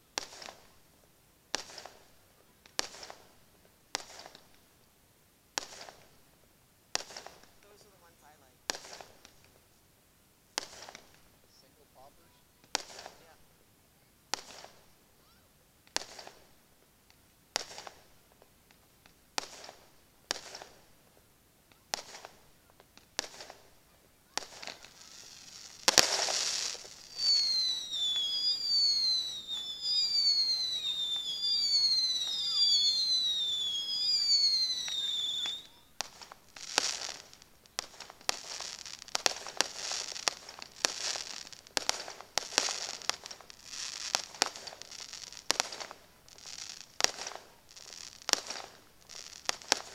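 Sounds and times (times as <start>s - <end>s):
firework bangs: 0.0s - 0.8s, 1.5s - 4.6s, 5.5s - 6.2s, 6.9s - 9.6s, 10.5s - 13.6s, 14.3s - 49.9s
fireworks whistling: 0.0s - 0.8s, 1.5s - 4.6s, 5.6s - 6.2s, 6.9s - 9.6s, 10.6s - 13.6s, 14.3s - 16.8s, 17.5s - 49.9s
fireworks crackling: 0.0s - 49.9s.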